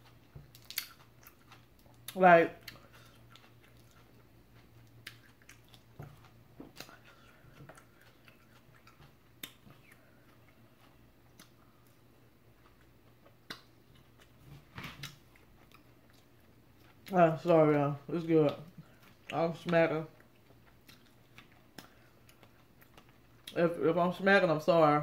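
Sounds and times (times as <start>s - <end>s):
person chewing and lip-smacking: 0.0s - 14.4s, 15.0s - 17.6s, 18.4s - 23.6s
steady low hum: 0.0s - 25.0s.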